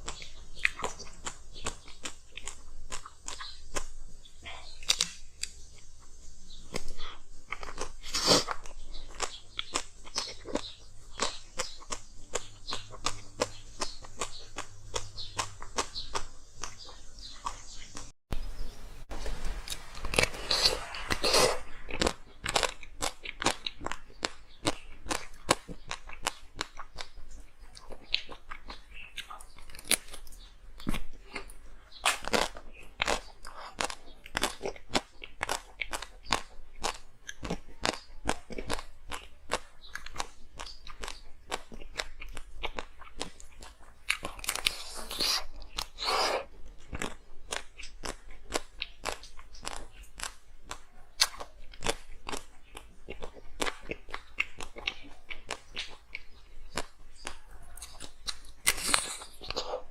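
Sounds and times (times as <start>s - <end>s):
ice being chewed: 0.0s - 18.5s, 19.2s - 59.9s.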